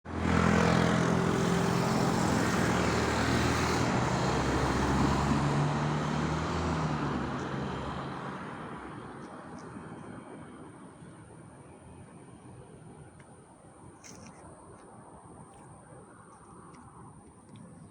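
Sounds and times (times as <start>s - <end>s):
road noise: 0.0s - 17.9s.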